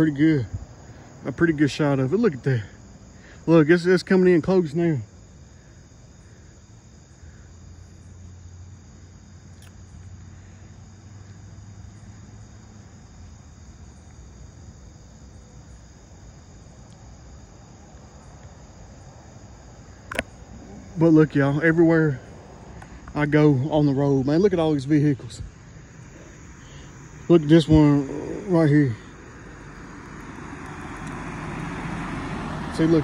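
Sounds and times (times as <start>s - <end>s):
faint low hum: 0.0s - 31.4s
crickets chirping: 0.0s - 33.0s.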